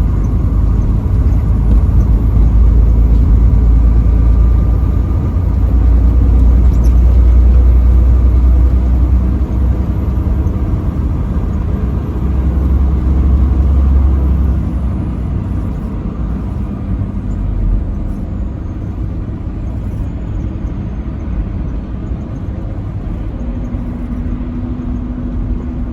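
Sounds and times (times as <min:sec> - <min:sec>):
truck engine and road rumble: 0:00.0 - 0:25.9.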